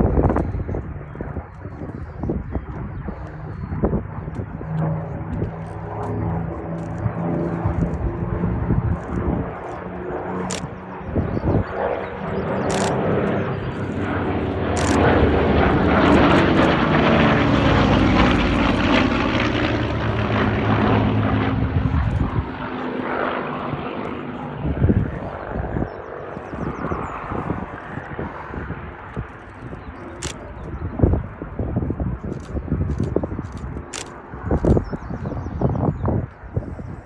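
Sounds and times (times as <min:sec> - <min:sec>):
propeller plane engine drone: 0:00.0 - 0:37.0.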